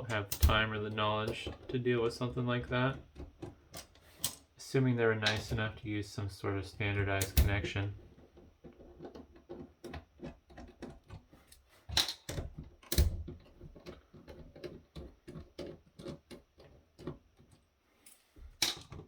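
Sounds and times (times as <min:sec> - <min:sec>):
tools clicking on plastic and metal: 0:00.0 - 0:04.6, 0:06.9 - 0:17.7, 0:18.6 - 0:19.0.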